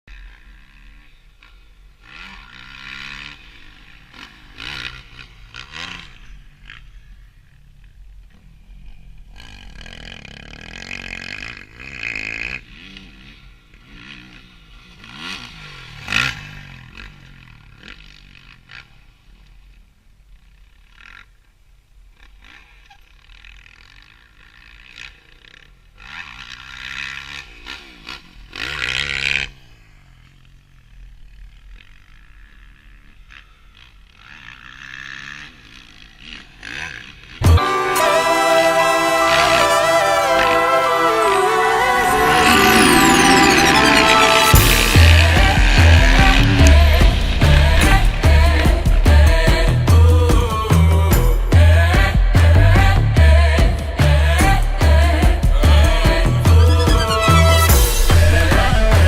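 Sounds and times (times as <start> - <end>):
motocross bike engine revving: 0.1 - 19.2, 22.4 - 37.6, 41.7 - 59.0.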